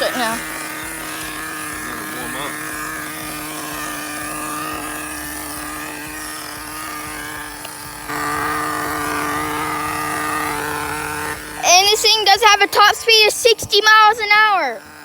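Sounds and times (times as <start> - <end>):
model car engine idling: 0.0 - 15.0.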